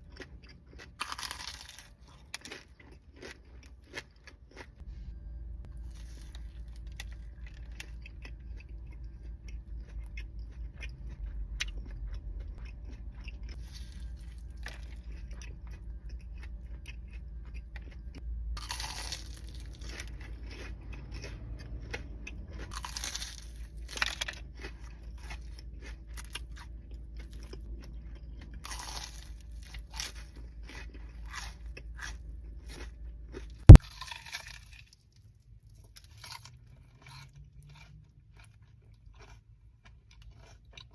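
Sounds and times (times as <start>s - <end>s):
crunching and chewing fried batter: 0.0s - 40.9s.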